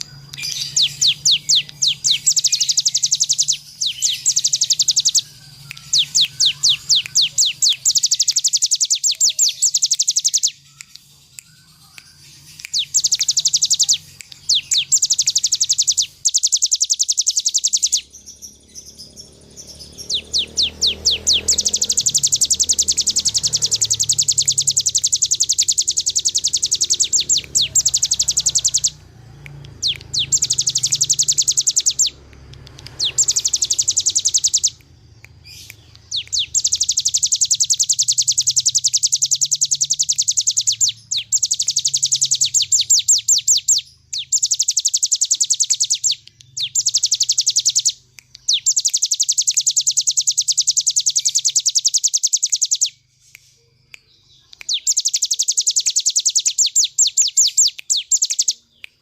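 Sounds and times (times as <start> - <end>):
bird singing rapid trills: 0.0 - 59.0.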